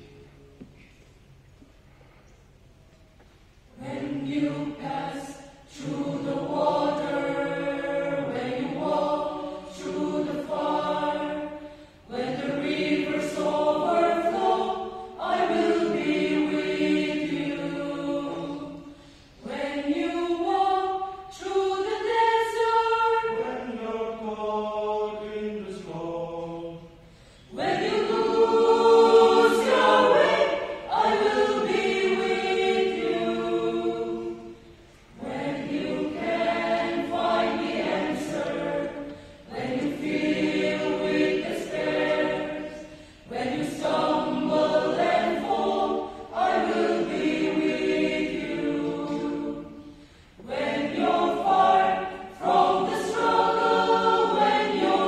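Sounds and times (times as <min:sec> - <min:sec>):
mixed choir singing gospel: 0:03.7 - 0:55.0.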